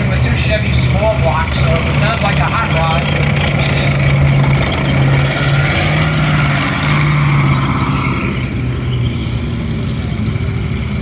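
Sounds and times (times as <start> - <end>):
tank engine droning: 0.0 - 11.0
tank tracks: 0.0 - 11.0.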